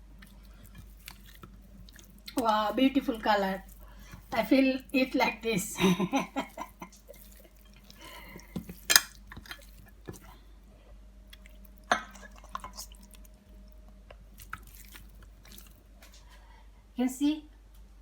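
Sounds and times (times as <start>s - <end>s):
hands squelching raw fish: 0.0s - 10.5s, 11.2s - 16.3s.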